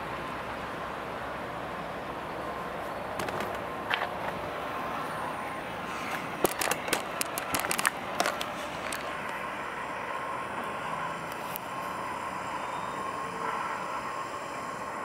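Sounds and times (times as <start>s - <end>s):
freight train cars rumbling: 0.0s - 15.0s.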